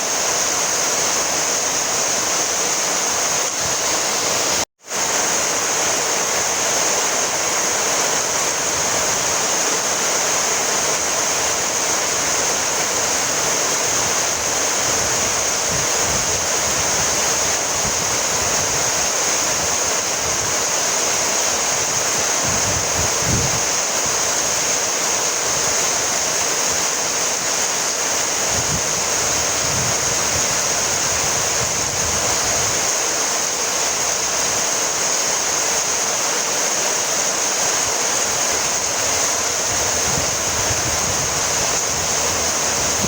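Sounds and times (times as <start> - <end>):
steady rain hissing: 0.0 - 43.0.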